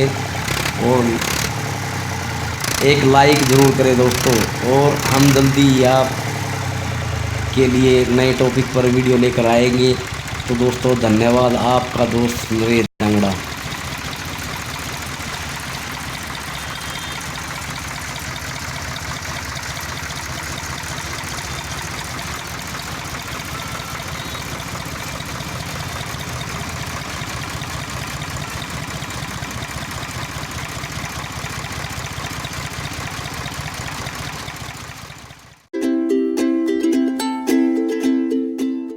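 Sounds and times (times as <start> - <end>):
tractor diesel engine idling: 0.0 - 35.7.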